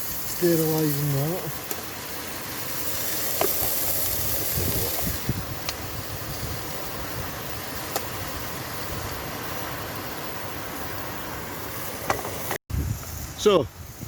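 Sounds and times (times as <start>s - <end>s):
steak and onions sizzling: 0.0s - 14.0s
stove burning with steady hiss: 0.0s - 14.0s.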